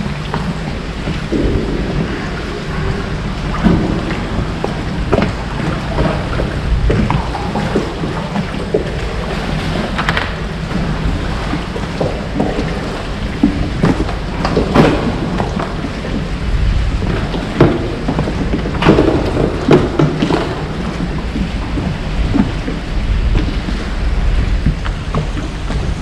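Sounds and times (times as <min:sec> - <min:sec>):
water slapping boat hull: 0:00.0 - 0:26.0
wind buffeting microphone: 0:00.0 - 0:26.0.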